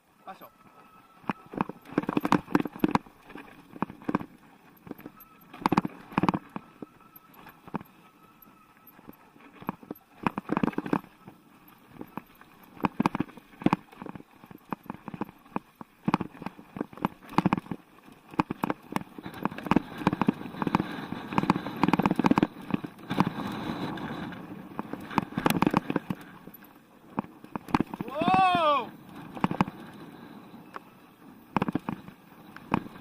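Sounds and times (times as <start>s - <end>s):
bike knocks and rattles on rocks: 1.2s - 7.9s, 9.0s - 11.2s, 11.9s - 23.3s, 24.7s - 29.9s, 31.5s - 33.0s.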